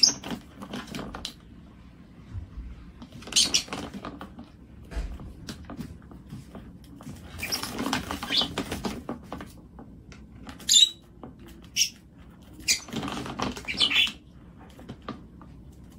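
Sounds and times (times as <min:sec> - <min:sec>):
bird scrabbling in plastic bin: 0:00.0 - 0:01.4, 0:03.0 - 0:15.9.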